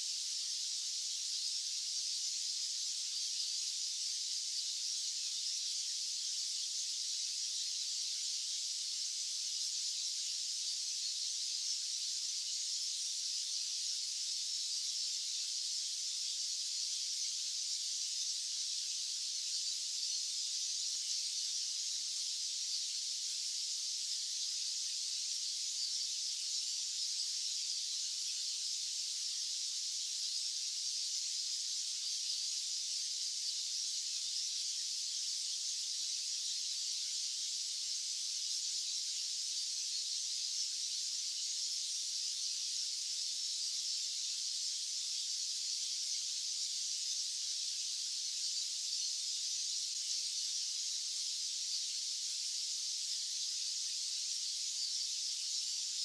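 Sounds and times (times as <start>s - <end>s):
high-pitched white noise hiss: 0.0s - 56.0s.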